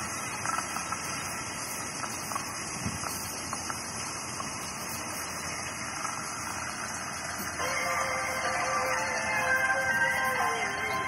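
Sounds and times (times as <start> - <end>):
steady hissing noise: 0.0 - 11.0.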